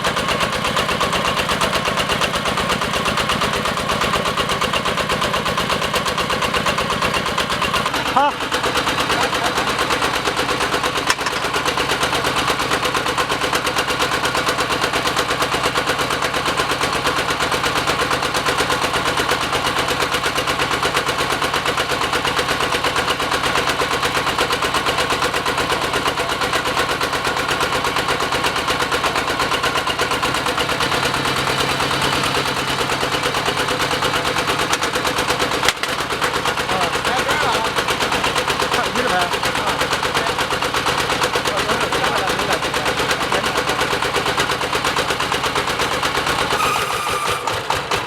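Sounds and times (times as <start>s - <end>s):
drilling rig diesel engine chugging: 0.0s - 48.0s.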